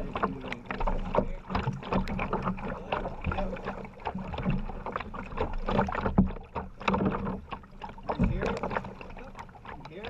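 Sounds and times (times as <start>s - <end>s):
heavy rain on kayaks and water: 0.0s - 10.0s
paddle splashes: 0.0s - 10.0s.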